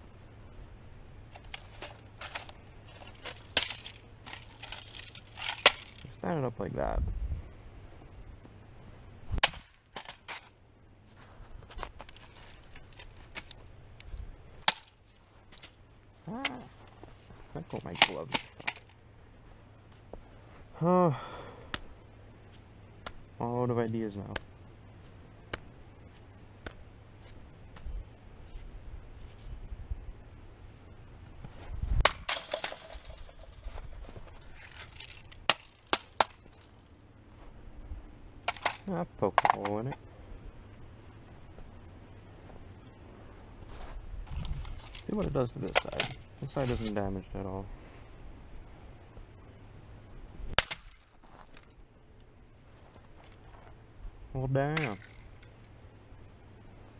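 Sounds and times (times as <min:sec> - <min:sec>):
faint rustle: 0:00.0 - 0:23.6, 0:24.2 - 0:39.0, 0:39.7 - 0:56.9.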